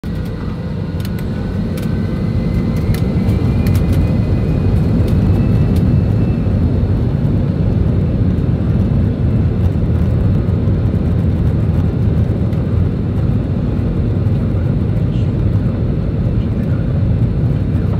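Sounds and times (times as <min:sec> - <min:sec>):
low engine rumble: 0:00.0 - 0:17.9.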